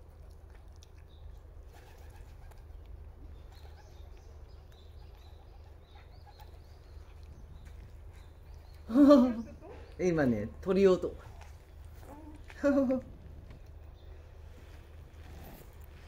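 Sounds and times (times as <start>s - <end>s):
birds chirping: 1.0s - 16.0s.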